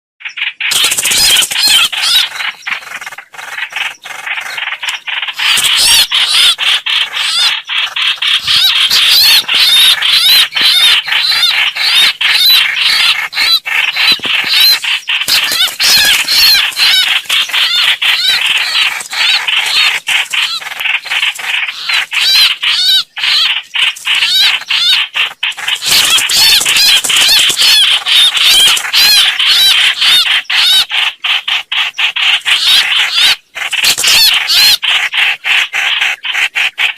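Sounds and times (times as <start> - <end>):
bird calling in arched notes: 0.2 - 36.9.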